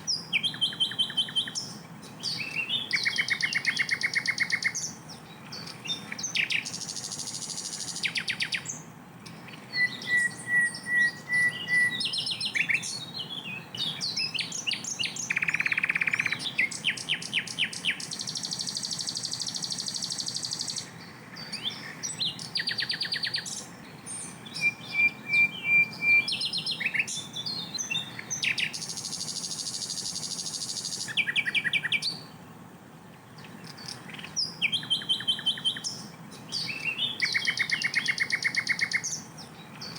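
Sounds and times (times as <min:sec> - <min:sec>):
bird singing trills: 0:00.0 - 0:32.4, 0:33.1 - 0:39.9.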